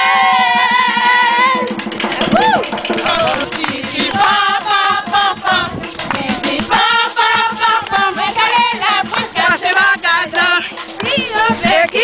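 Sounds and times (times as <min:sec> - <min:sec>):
group of voices singing: 0:00.0 - 0:12.0
steady beat: 0:00.0 - 0:12.0.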